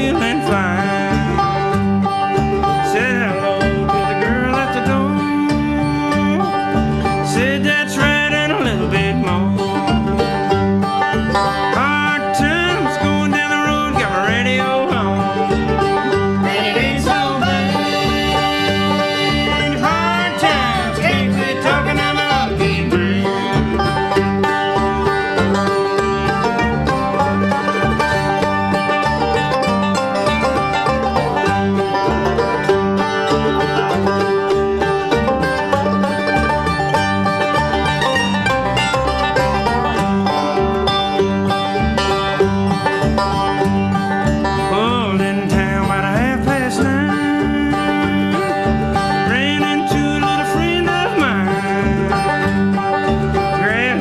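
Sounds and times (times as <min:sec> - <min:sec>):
instrumental country music: 0:00.0 - 0:54.0.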